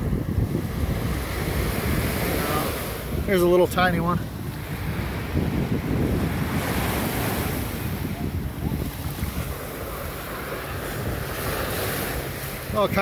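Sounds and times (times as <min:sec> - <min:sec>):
small waves washing over sand: 0:00.0 - 0:13.0
wind buffeting microphone: 0:00.0 - 0:13.0.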